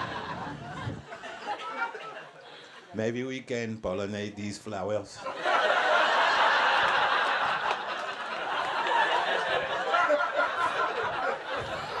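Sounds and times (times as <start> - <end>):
audience laughing: 0.0 - 3.0, 5.2 - 12.0.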